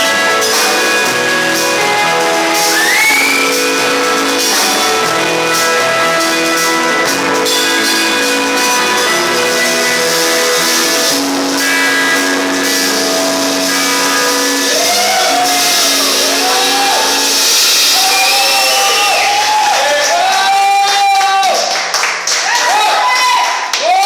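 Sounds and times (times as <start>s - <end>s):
guitar slides wavering in pitch: 0.0s - 19.4s
electric guitar chords: 0.0s - 19.8s
live rock band playing: 0.0s - 20.3s.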